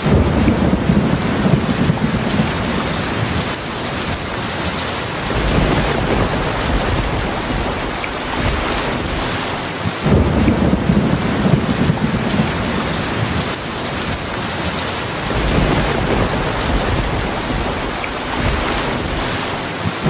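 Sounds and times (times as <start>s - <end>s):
heavy rain falling: 0.0s - 20.0s
low rolling thunder: 0.0s - 20.0s.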